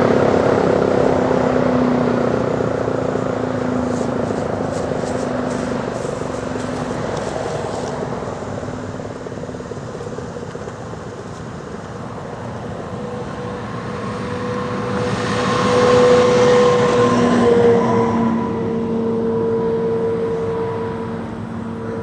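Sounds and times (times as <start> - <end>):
warning siren steady tone: 0.0 - 10.2, 11.7 - 22.0.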